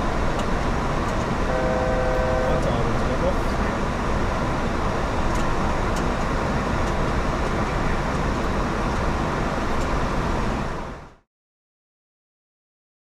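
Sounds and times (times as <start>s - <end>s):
airflow noise: 0.0s - 11.0s
aircraft engine noise: 0.0s - 11.2s.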